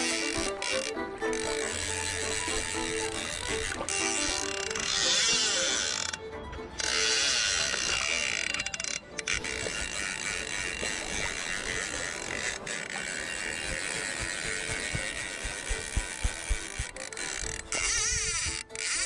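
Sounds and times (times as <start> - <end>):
fishing reel drag ratcheting: 0.0 - 6.2, 6.8 - 19.0
wind: 0.0 - 19.0.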